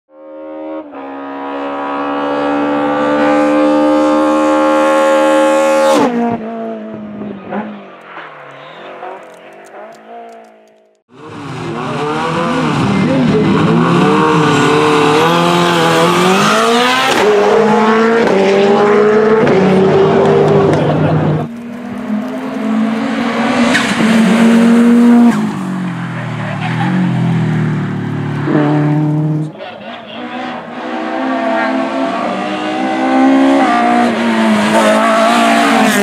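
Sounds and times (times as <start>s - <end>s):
race car engine revving: 0.2s - 36.0s.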